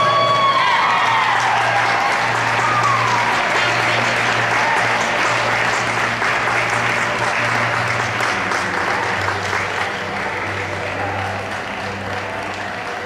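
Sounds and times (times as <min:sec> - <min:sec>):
audience applauding: 0:00.0 - 0:13.0
music playing: 0:00.0 - 0:13.0.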